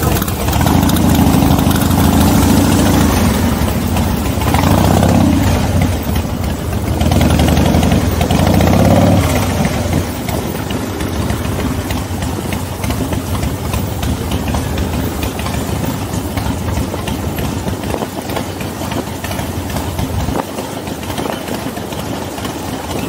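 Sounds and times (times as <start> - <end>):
motorcycle engines pulling away: 0.0 - 23.0.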